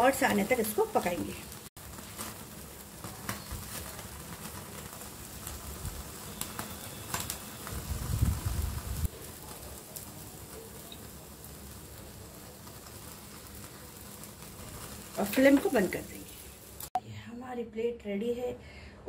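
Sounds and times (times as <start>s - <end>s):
gas stove flame rumbling: 0.0s - 17.0s
meat crackling and popping: 0.0s - 17.0s.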